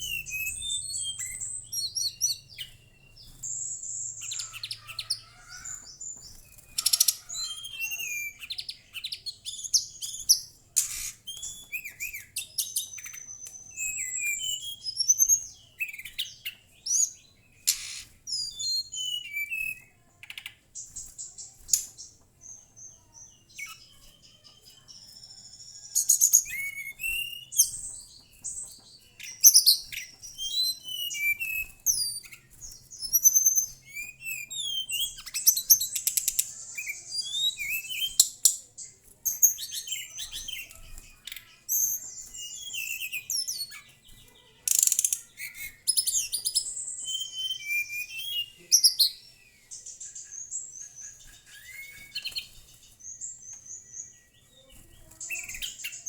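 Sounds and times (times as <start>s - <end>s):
bird singing whistled phrases: 0.0s - 20.5s, 23.0s - 28.0s, 29.2s - 38.6s, 39.3s - 56.0s.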